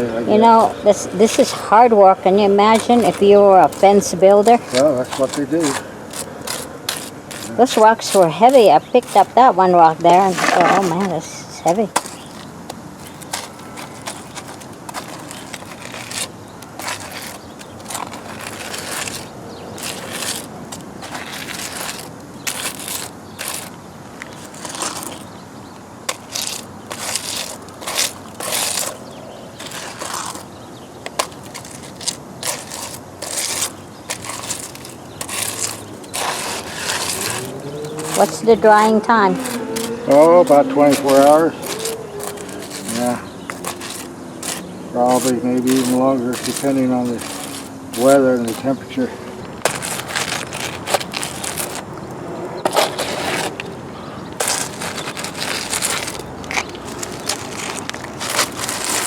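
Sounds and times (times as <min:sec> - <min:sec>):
gritty scraping of concrete and rocks: 0:00.0 - 0:59.0.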